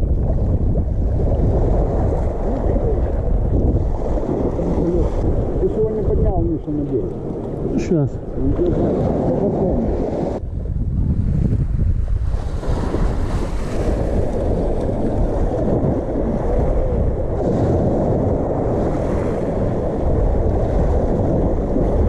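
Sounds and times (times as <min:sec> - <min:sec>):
waves on open water: 0:00.0 - 0:22.0
wind rushing over microphone: 0:00.0 - 0:22.0.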